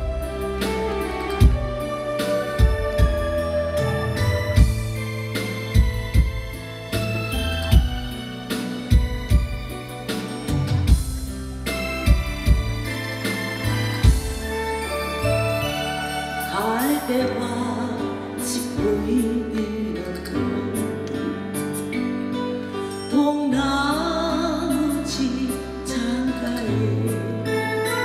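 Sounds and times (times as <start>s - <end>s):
karaoke backing music: 0.0s - 28.0s.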